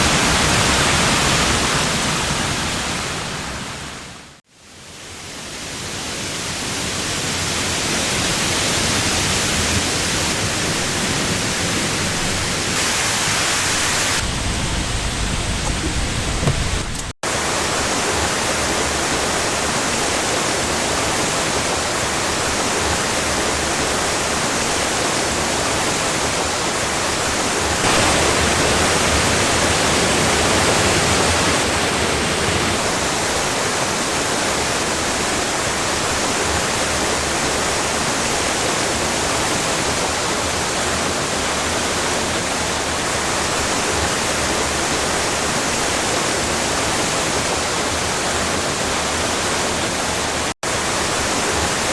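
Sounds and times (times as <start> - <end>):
waterfall rushing: 0.0 - 3.9, 5.5 - 51.9.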